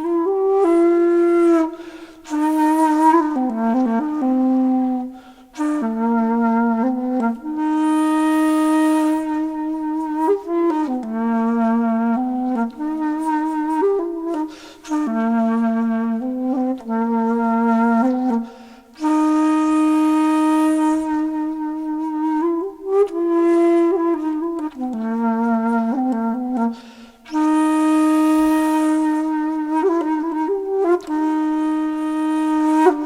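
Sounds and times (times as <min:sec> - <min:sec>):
slow solo flute melody: 0:00.0 - 0:33.0.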